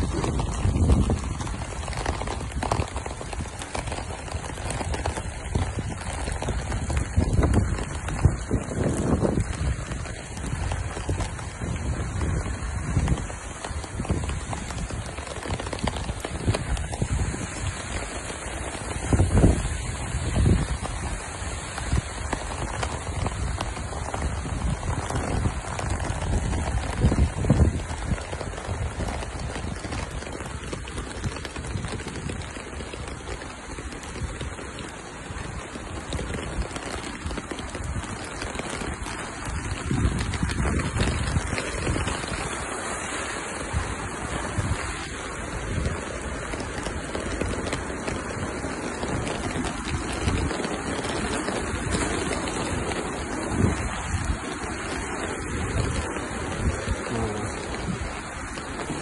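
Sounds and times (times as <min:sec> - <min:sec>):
rain washing on wet street: 0:00.0 - 0:59.0
wind rumble on microphone: 0:00.0 - 0:59.0.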